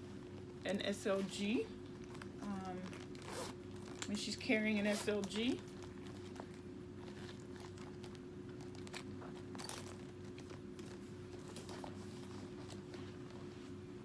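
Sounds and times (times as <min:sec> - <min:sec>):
steady low hum: 0:00.0 - 0:14.0
leather handbag rustling and clicking: 0:00.3 - 0:04.2, 0:04.8 - 0:13.4.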